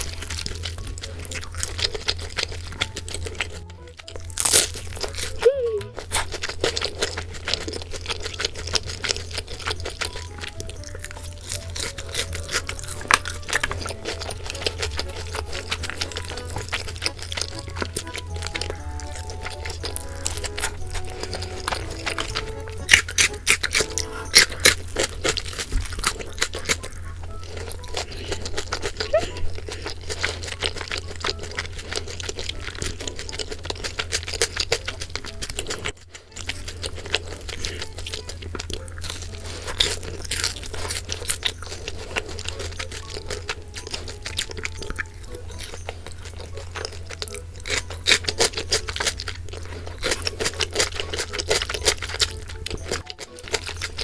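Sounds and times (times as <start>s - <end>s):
crunching fried chicken: 0.0s - 54.0s.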